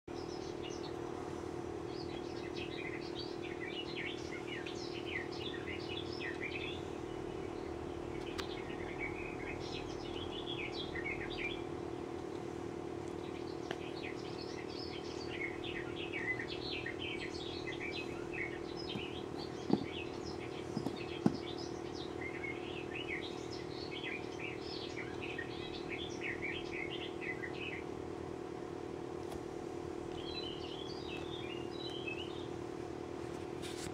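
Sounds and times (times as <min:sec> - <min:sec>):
small birds chirping: 0:00.1 - 0:28.3, 0:29.2 - 0:33.9
steady low hum: 0:00.1 - 0:33.9.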